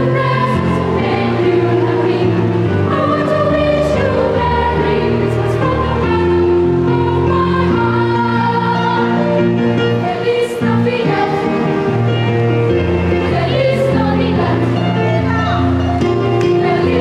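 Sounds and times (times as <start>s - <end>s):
children's choir singing: 0.0s - 17.0s
musical accompaniment: 0.0s - 17.0s.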